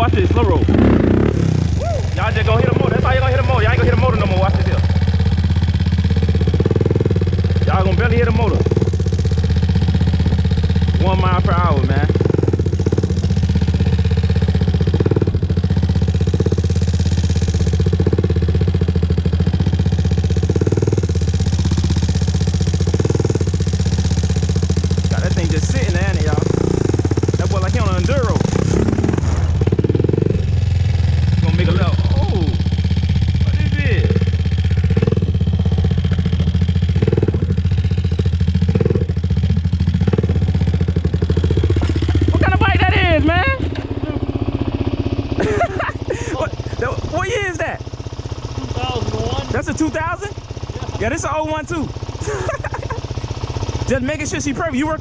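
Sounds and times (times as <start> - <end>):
quad engine running at low revs: 0.0 - 55.0.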